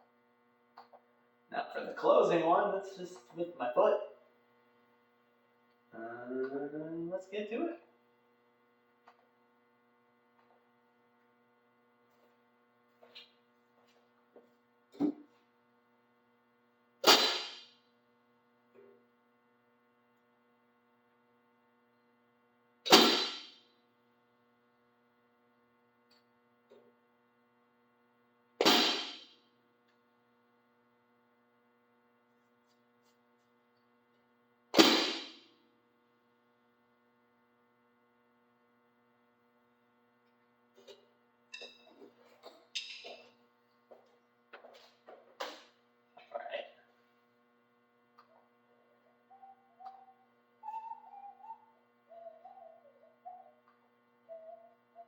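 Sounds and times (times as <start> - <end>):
faint electrical hum: 0.0 - 55.0.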